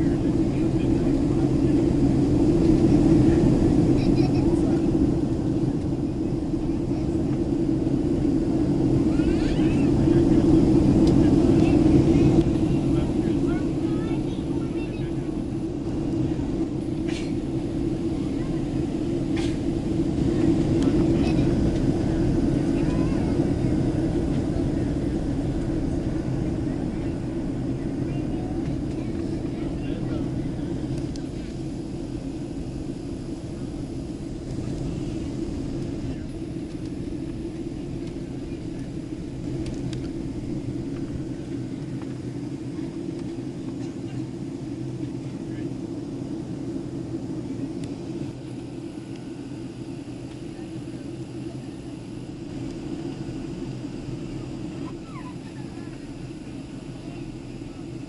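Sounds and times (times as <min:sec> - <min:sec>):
jet engines roaring: 0:00.0 - 0:58.0
rushing air in cabin: 0:00.0 - 0:58.0.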